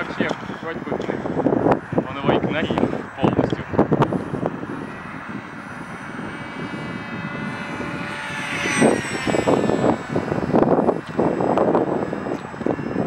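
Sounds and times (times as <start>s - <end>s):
model aircraft motor whining: 0.0s - 13.0s.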